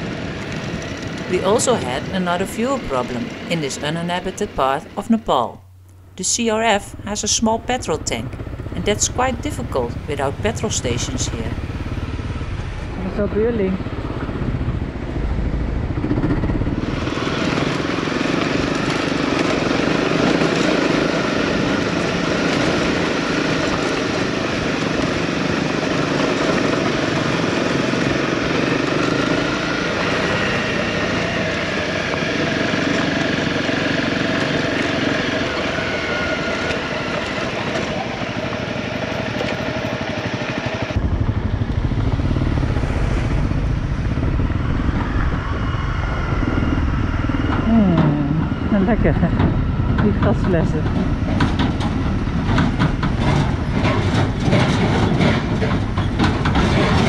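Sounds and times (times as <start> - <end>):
dirt bike engine running: 5.8 - 57.0
wind noise: 6.6 - 57.0.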